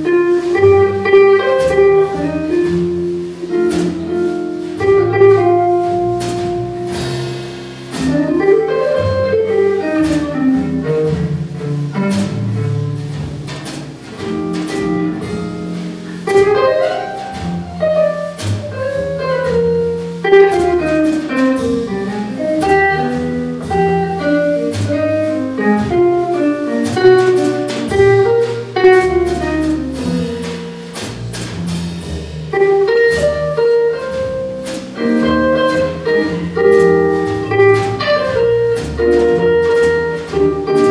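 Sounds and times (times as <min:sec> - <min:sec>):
double bass: 0:00.0 - 0:40.9
drum kit: 0:00.0 - 0:40.9
jazz electric guitar solo: 0:00.0 - 0:40.9.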